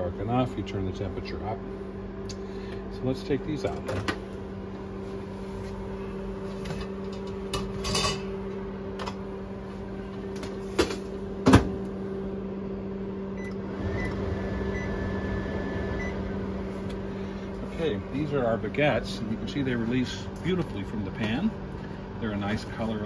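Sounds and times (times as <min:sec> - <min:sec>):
microwave fan humming: 0:00.0 - 0:23.0.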